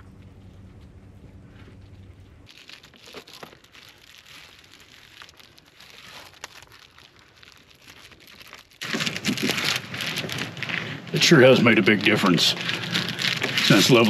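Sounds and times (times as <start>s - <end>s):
material crinkling and rustling: 0.0s - 14.0s.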